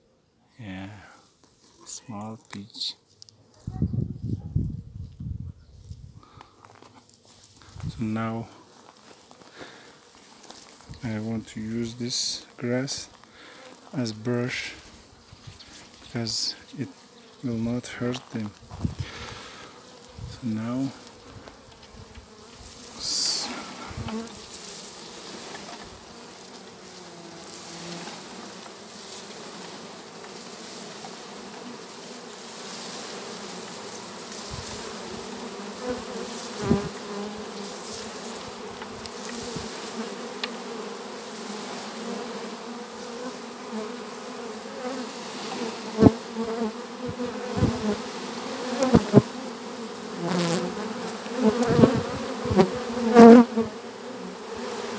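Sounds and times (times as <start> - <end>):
honeybee swarm humming: 6.2 - 54.9.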